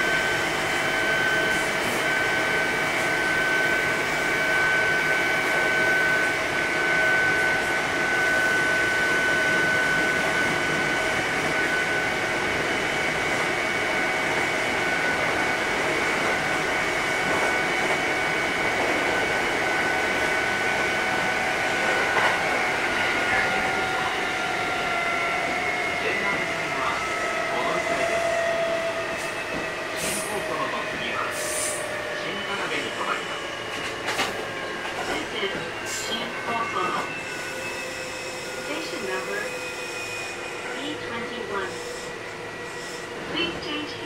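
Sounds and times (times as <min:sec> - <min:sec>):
train rolling on rails: 0:00.0 - 0:44.0.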